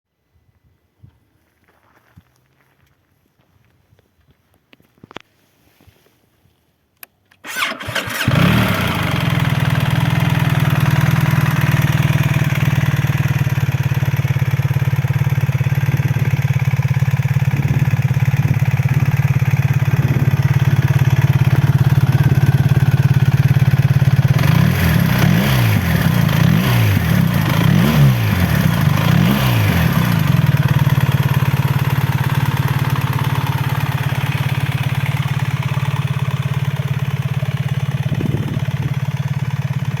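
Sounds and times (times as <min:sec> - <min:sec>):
motorcycle engine idling and revving: 0:07.4 - 0:40.0.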